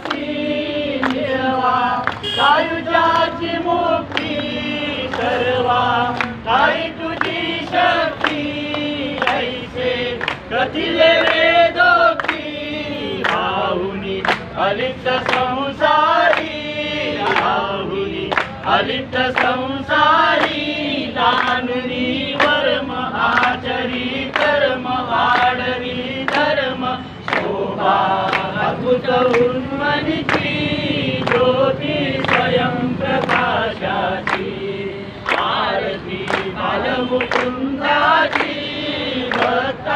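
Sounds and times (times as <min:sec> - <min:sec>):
hands clapping in time: 0:00.0 - 0:03.4, 0:04.0 - 0:12.5, 0:13.2 - 0:39.9
group singing devotional song: 0:00.0 - 0:39.9.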